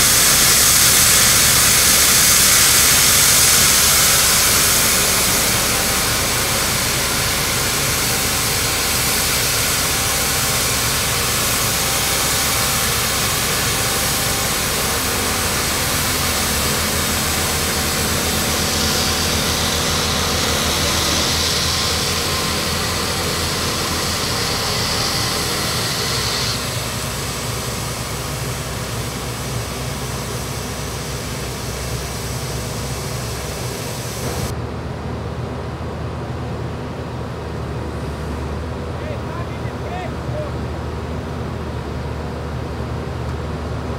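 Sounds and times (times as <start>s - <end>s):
strong mechanical hiss: 0.0s - 34.5s, 37.3s - 43.9s
diesel engine: 0.0s - 43.9s.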